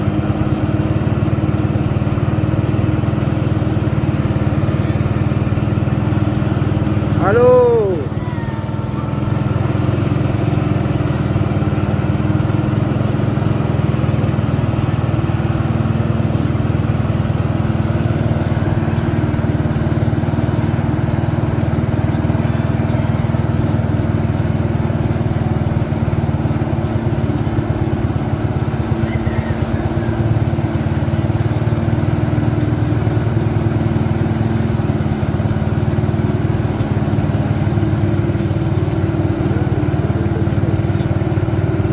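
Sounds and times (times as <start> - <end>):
truck diesel engine droning: 0.0 - 41.9.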